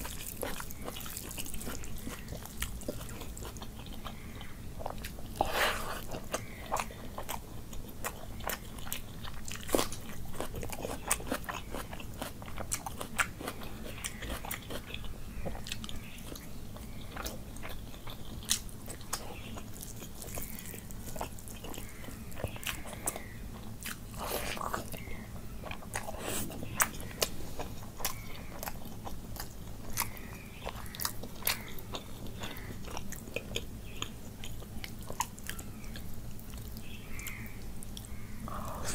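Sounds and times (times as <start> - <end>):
man chewing food: 0.0 - 38.9.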